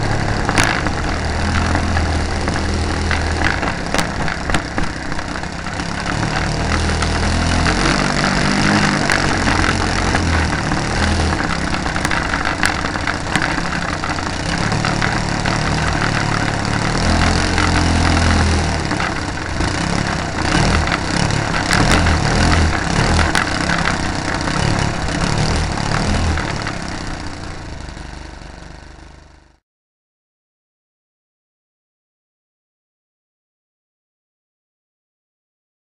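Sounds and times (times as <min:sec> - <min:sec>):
model airplane engine: 0:00.0 - 0:29.6
vibration noise: 0:00.0 - 0:29.6.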